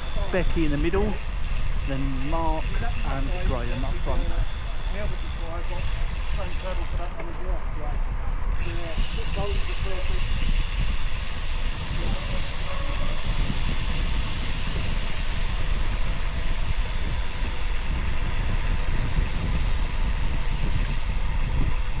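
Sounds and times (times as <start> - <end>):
bike road noise: 0.0 - 22.0
wind rush on microphone: 0.0 - 22.0.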